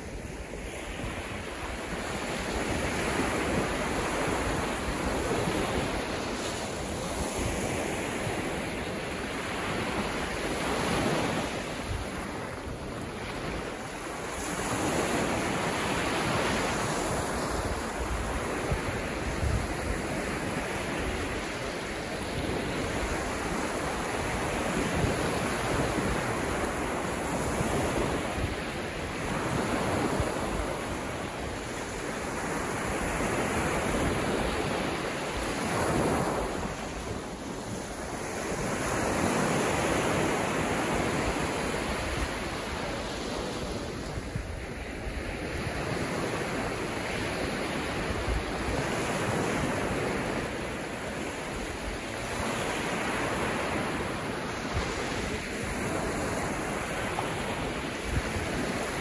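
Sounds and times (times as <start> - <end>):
small waves breaking on sand: 0.0 - 59.0.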